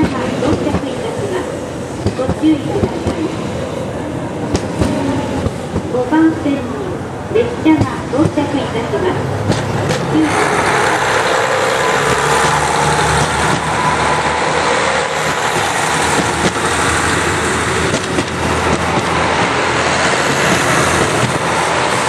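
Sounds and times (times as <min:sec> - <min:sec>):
diesel train engines running: 0:00.0 - 0:22.0
train cars rolling on rails: 0:00.0 - 0:22.0.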